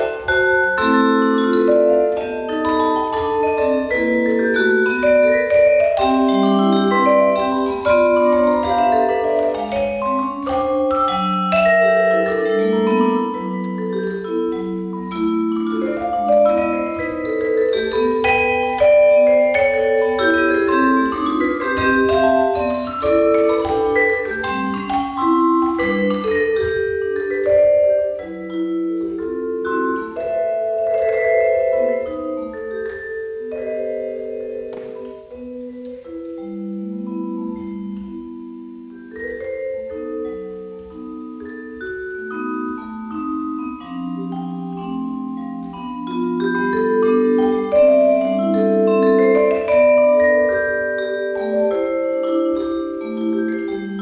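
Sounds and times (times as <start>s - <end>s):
vibraphone played with mallets: 0.0s - 54.0s.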